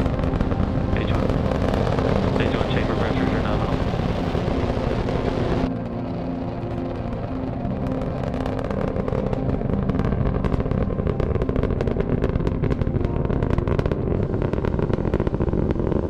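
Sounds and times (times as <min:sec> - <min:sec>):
rocket engine rumbling and crackling: 0:00.0 - 0:16.0.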